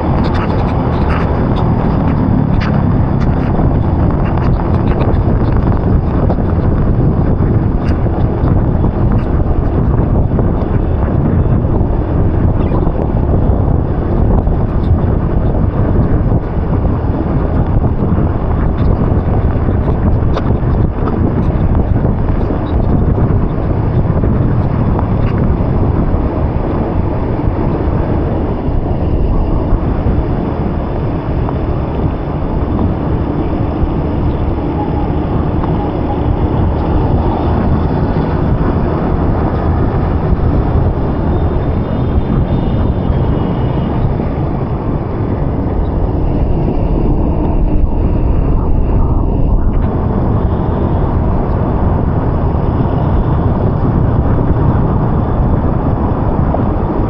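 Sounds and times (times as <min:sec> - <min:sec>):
vehicle running noise: 0:00.0 - 0:57.0
wind buffeting microphone: 0:00.0 - 0:57.0.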